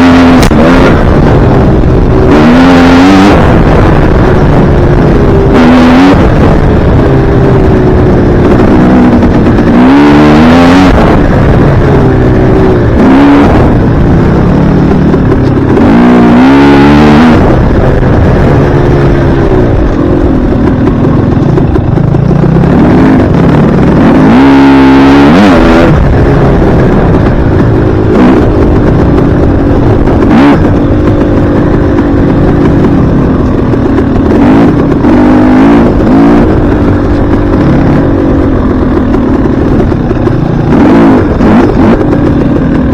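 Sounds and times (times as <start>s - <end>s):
dirt bike engine revving: 0.0s - 42.9s
loud low rumble: 0.0s - 42.9s.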